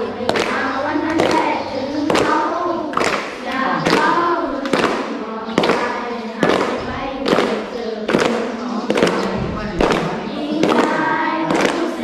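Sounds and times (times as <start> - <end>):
children clapping hands: 0.0 - 12.0
children singing in unison: 0.0 - 12.0.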